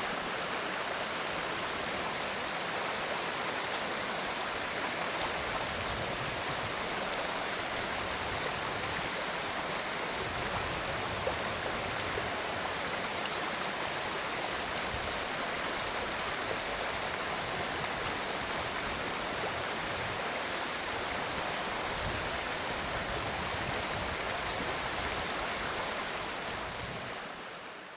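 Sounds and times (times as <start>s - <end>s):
stream water flowing: 0.0s - 27.9s.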